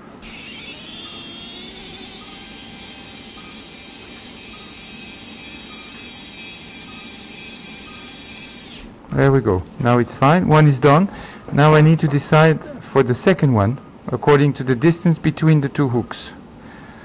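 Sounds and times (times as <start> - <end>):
surgical drill whining: 0.0 - 16.6.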